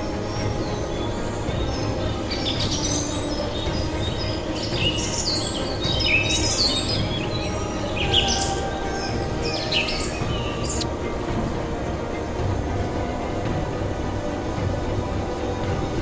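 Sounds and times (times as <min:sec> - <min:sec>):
birds chirping: 0:00.0 - 0:16.0
steady low background: 0:00.0 - 0:16.0.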